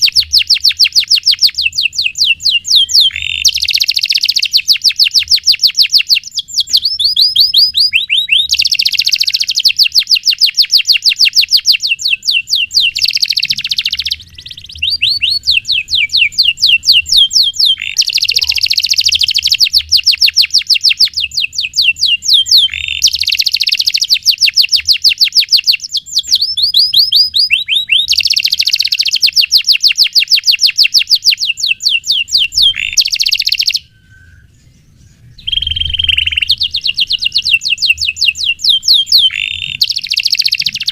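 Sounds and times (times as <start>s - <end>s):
canary singing rolling trills: 0.0s - 40.9s.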